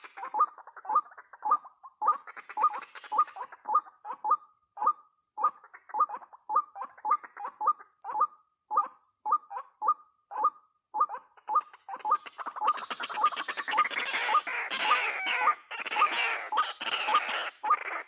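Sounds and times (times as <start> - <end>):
faint high-pitched hiss: 0.0 - 17.9
bird croaking calls: 0.0 - 18.0.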